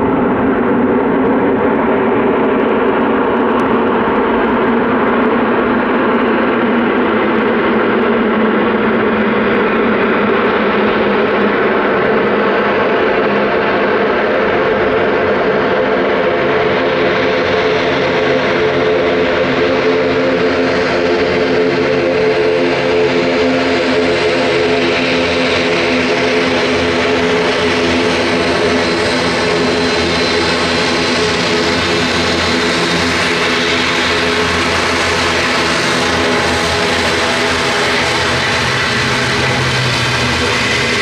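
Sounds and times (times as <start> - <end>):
turboprop engines droning: 0.0 - 41.0.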